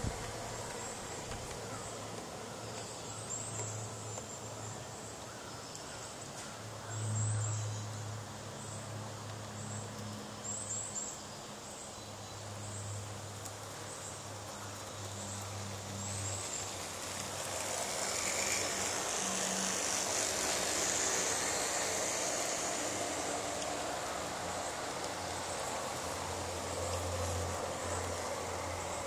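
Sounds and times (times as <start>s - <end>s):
model train low hum: 0.0s - 29.0s.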